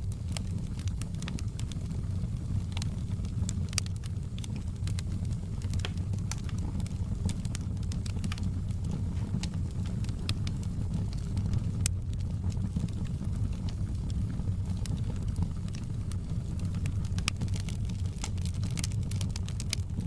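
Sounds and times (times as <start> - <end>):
fire crackling and popping: 0.0 - 20.0
low rumble of burning fire: 0.0 - 20.0.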